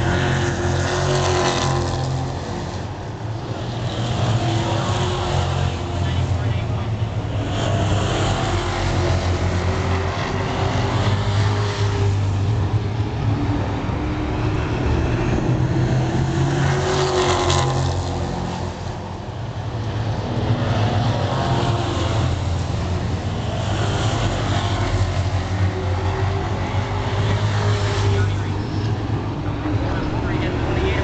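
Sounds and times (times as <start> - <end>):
race car engines droning: 0.0 - 31.0.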